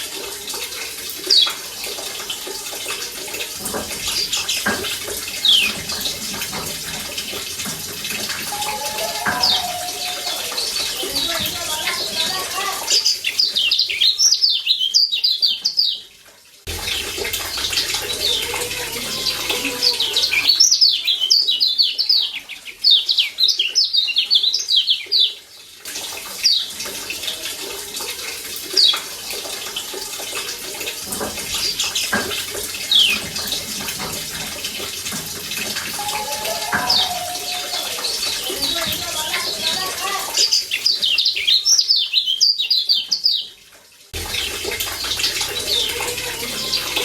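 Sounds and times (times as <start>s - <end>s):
running water: 0.0s - 47.0s.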